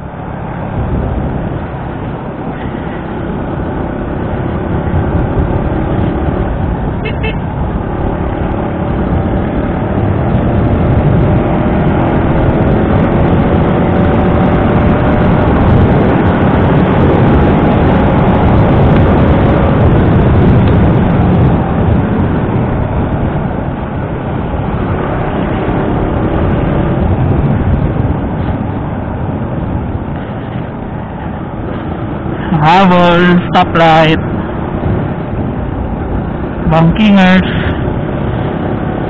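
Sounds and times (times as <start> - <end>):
wind rush on microphone: 0.0 - 39.0.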